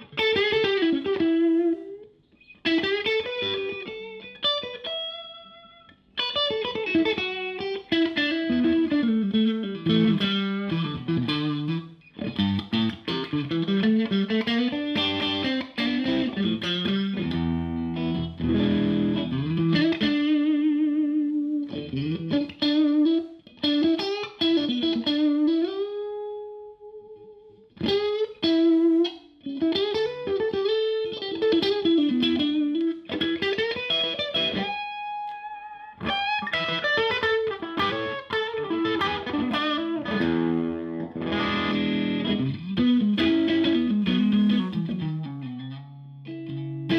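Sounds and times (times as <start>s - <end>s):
overdriven electric guitar lead: 0.0s - 46.9s.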